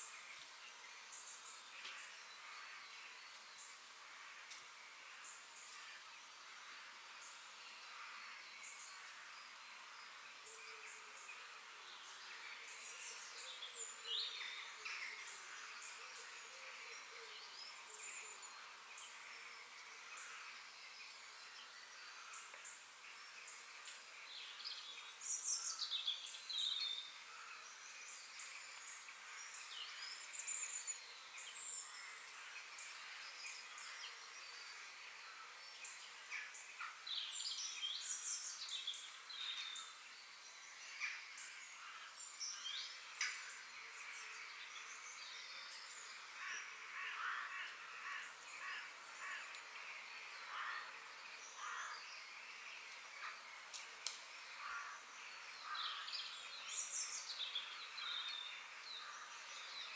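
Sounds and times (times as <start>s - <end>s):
high hiss of insects: 0.0s - 59.9s
birds calling and chirping: 7.1s - 59.9s.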